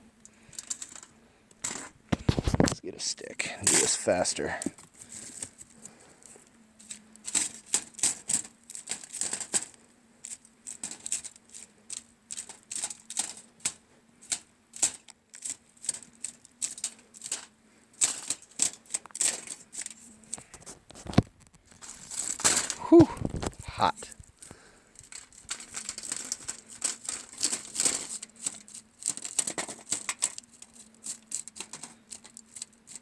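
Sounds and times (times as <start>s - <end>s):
stick scraping hot coals: 0.2s - 33.0s.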